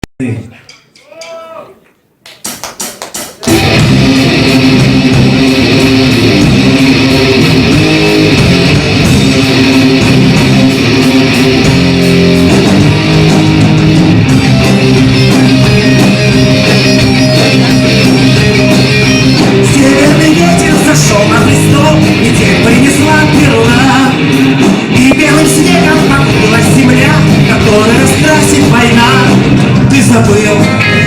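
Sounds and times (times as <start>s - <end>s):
guitar-led rock music: 3.4s - 31.0s.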